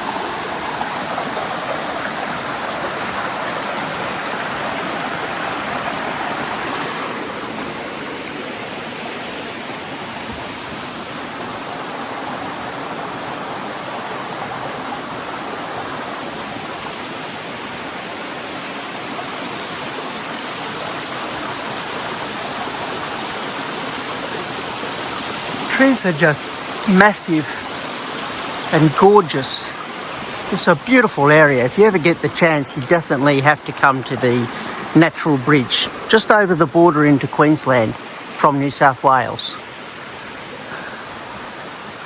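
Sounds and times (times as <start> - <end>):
running water and waterfall: 0.0 - 42.0.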